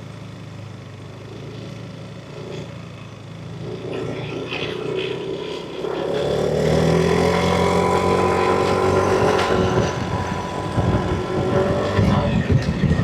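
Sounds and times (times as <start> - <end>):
scooter engine revving: 1.1 - 13.0.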